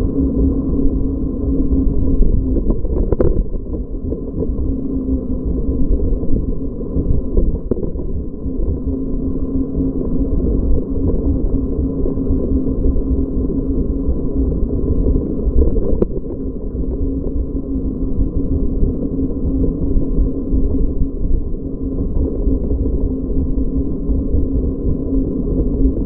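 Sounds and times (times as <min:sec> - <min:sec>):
steady motor hum: 0:00.0 - 0:26.0
wind rumble on microphone: 0:00.0 - 0:26.0.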